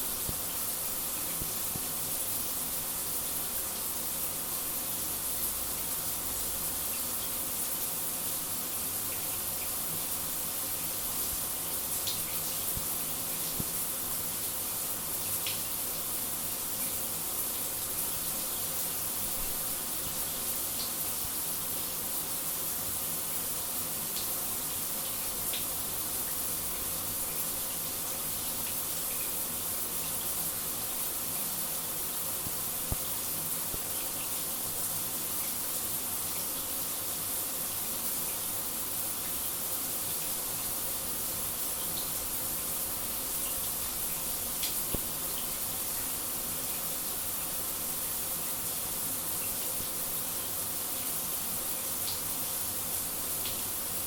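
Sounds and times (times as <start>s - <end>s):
shower water spraying: 0.0s - 54.0s.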